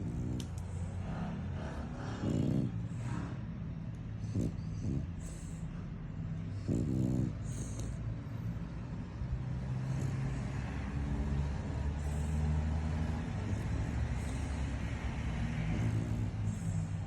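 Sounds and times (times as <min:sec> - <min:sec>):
dog snoring: 0:00.0 - 0:17.0.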